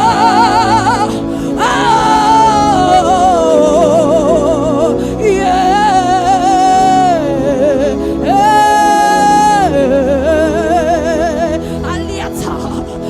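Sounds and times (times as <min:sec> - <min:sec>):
sustained low chords: 0:00.0 - 0:13.0
wordless melody with vibrato: 0:00.0 - 0:13.0.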